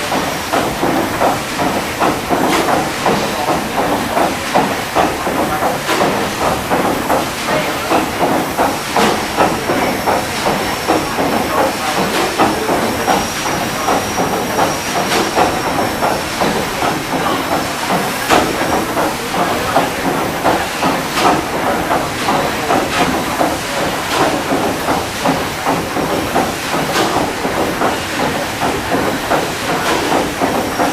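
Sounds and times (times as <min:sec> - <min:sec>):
steam engine beat: 0:00.0 - 0:30.9
steam hiss: 0:00.0 - 0:30.9.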